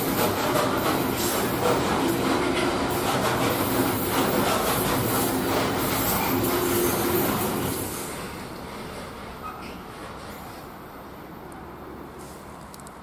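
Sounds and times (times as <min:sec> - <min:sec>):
freight train wheels rumbling: 0:00.0 - 0:12.8.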